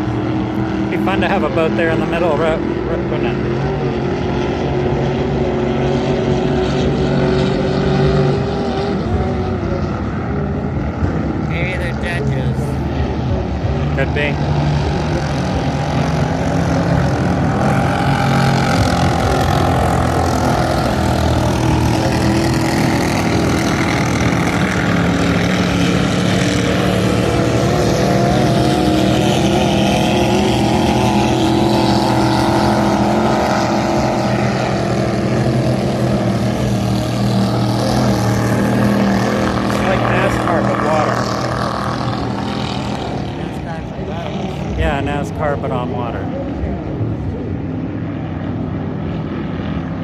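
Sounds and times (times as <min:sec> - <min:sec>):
speedboat engines droning: 0:00.0 - 0:50.0.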